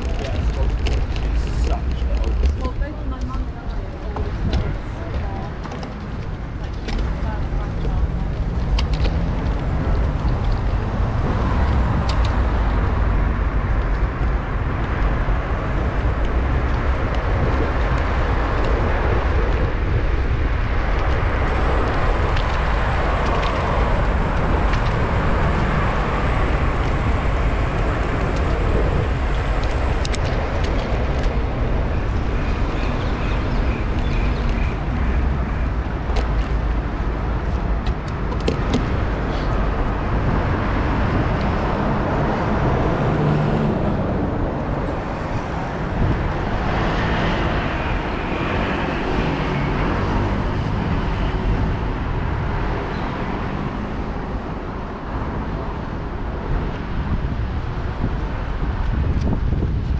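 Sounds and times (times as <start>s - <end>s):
road traffic noise: 0.0s - 59.9s
wind rumble on microphone: 0.0s - 59.9s.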